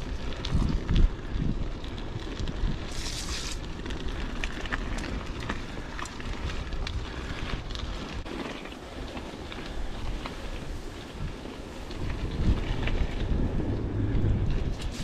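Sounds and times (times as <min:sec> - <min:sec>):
bicycle tyres rolling on dirt: 0:00.0 - 0:15.0
bike clicks and rattles: 0:00.0 - 0:15.0
wind rumbling on microphone: 0:00.0 - 0:15.0.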